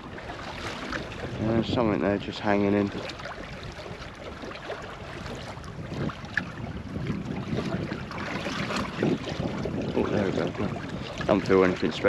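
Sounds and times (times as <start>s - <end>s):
sea water washing around boat: 0.0s - 12.0s
wind on microphone: 0.0s - 12.0s.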